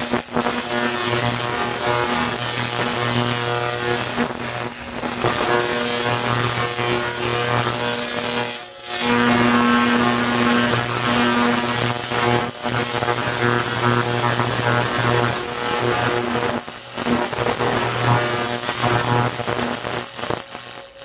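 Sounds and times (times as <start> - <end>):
laser cleaner buzzing: 0.0 - 21.0.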